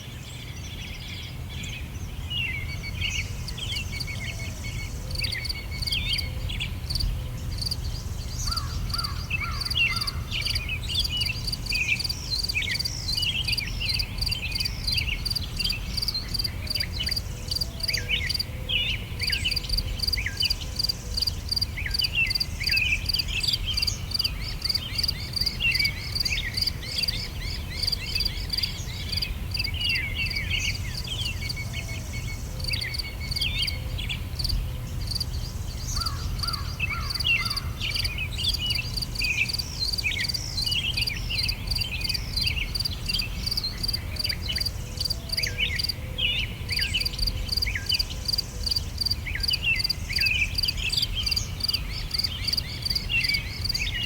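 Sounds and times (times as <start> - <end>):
songbirds chirping: 0.0 - 54.0
insects chirping: 4.8 - 6.2, 6.8 - 18.5, 19.2 - 46.0, 46.7 - 54.0.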